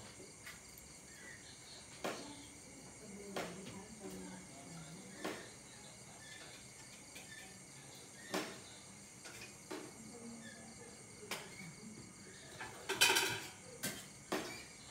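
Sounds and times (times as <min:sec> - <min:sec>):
insects chirping: 0:00.0 - 0:14.9.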